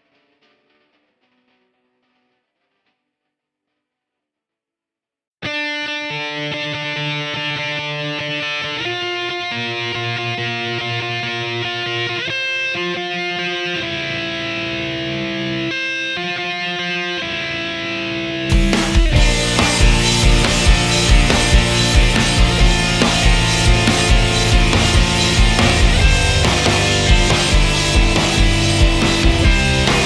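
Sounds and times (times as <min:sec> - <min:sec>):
guitar chords ringing: 0:05.5 - 0:30.0.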